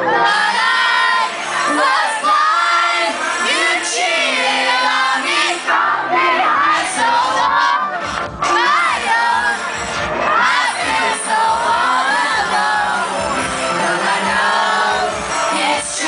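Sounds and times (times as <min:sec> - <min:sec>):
crowd cheering and shouting: 0:00.0 - 0:16.0
synth backing track: 0:00.0 - 0:16.0.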